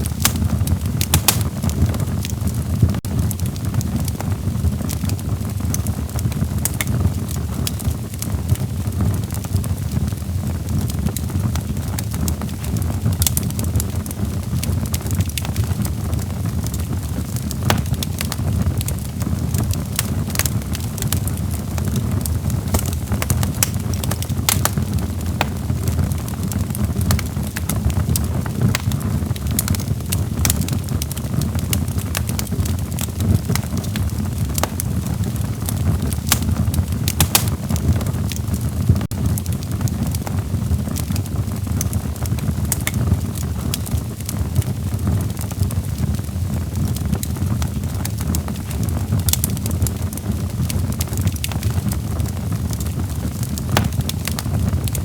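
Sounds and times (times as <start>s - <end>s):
fire flames rumbling: 0.0s - 55.0s
logs crackling and popping: 0.0s - 55.0s.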